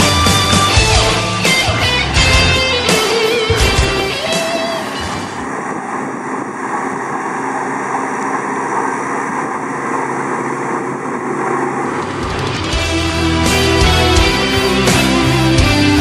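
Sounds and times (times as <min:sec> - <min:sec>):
transporter machine running: 0:00.0 - 0:15.9.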